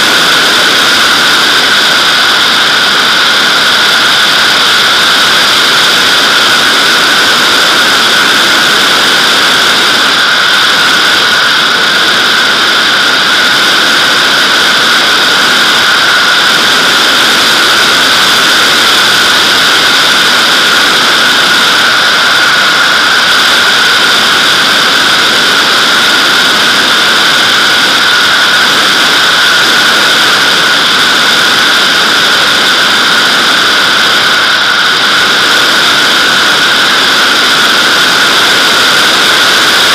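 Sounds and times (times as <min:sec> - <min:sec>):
rushing airflow with whistling: 0:00.0 - 0:39.9.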